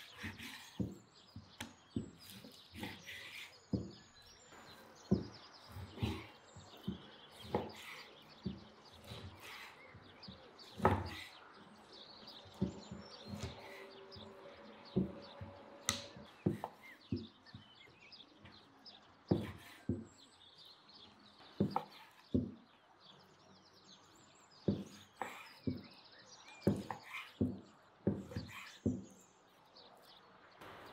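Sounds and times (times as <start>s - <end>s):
birds chirping faintly: 0.0s - 30.9s.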